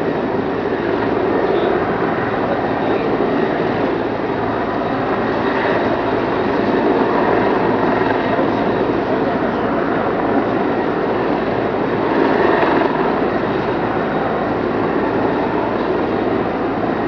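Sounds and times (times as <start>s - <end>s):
helicopter rotor and engine running: 0.0s - 17.0s.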